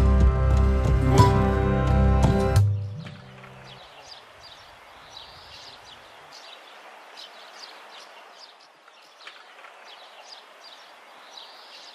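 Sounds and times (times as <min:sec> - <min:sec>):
birds chirping: 0:00.0 - 0:11.9
steady outdoor hiss: 0:00.0 - 0:11.9.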